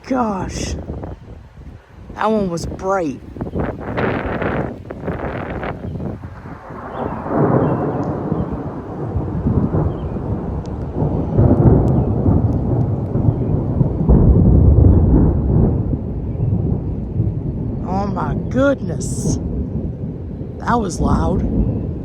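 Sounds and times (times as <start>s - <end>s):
thunder rolling and rumbling: 0.0s - 22.0s.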